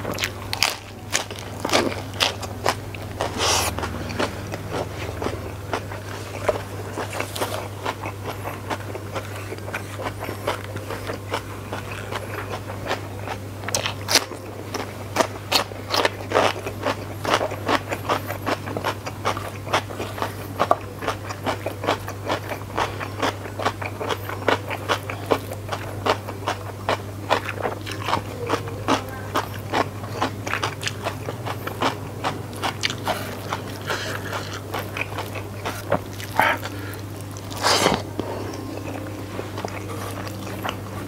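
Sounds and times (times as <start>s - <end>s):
chewing and mouth clicks: 0.0s - 41.0s
steady low hum: 0.0s - 41.0s.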